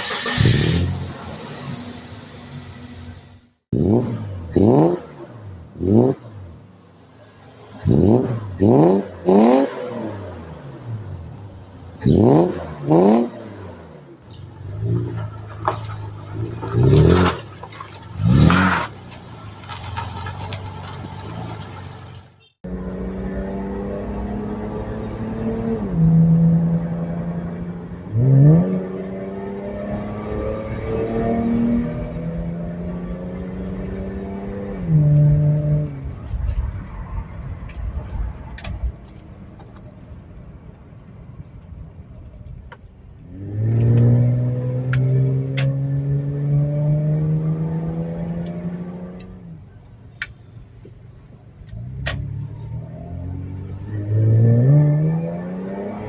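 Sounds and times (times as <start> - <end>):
car engine revving: 0.0 - 6.6, 7.7 - 22.0, 22.6 - 36.6, 43.2 - 49.5, 51.7 - 56.0.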